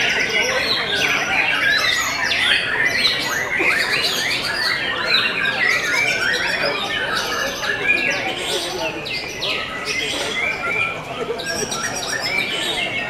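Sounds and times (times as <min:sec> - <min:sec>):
birds singing whistles and chatter: 0:00.0 - 0:13.0.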